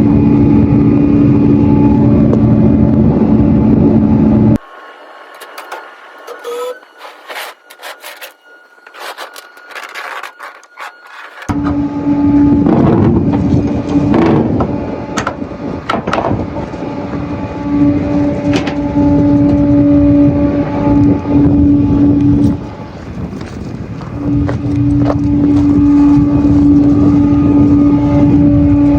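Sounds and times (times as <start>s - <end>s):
tow truck engine humming: 1.4s - 12.6s, 13.2s - 28.9s.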